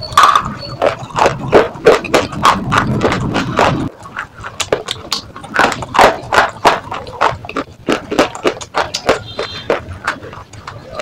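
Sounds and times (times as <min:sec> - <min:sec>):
crunchy chewing: 0:00.1 - 0:11.0.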